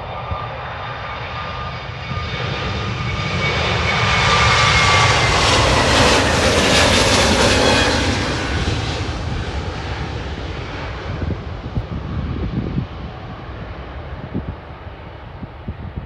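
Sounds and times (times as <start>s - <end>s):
airplane engine whine: 0.0s - 16.0s.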